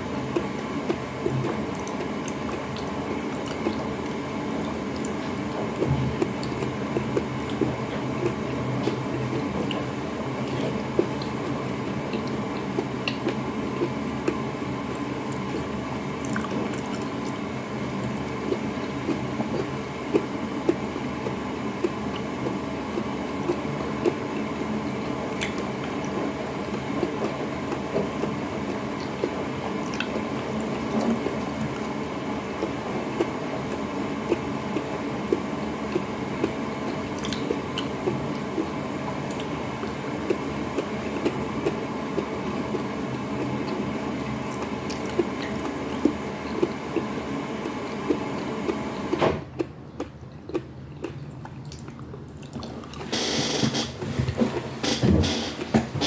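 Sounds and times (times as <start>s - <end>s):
wet chewing: 0.3s - 32.0s, 32.6s - 42.8s, 43.4s - 48.8s, 49.6s - 53.1s.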